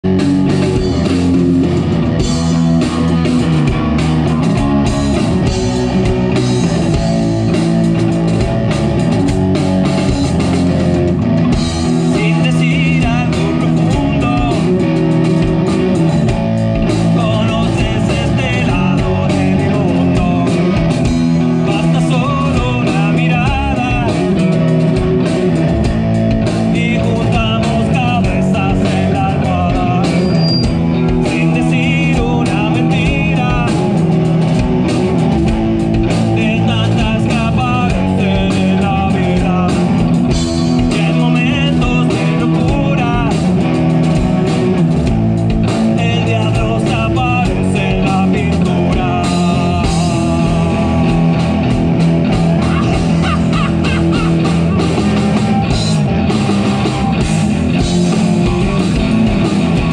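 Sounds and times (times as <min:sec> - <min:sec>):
amplified electric guitars: 0:00.0 - 0:59.9
live rock band playing: 0:00.0 - 0:59.9.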